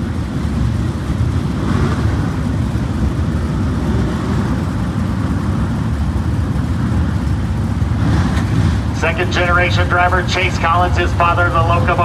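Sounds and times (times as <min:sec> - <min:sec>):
race car engines running together: 0:00.0 - 0:12.0.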